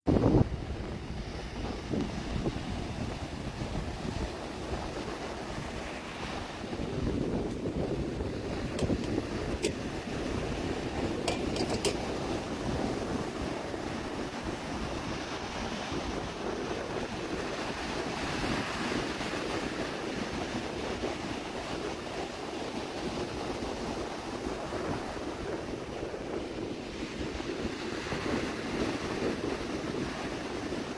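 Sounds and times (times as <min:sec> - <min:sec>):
wind rumbling on microphone: 0:00.1 - 0:30.9.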